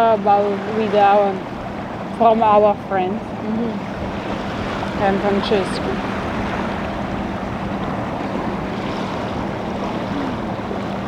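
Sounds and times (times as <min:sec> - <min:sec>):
low steady hum: 0:00.0 - 0:11.0
water washing around boat: 0:00.0 - 0:11.0
wind: 0:00.0 - 0:11.0.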